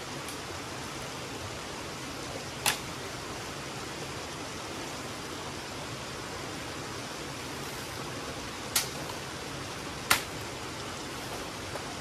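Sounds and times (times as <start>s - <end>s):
river water gushing: 0.0s - 12.0s.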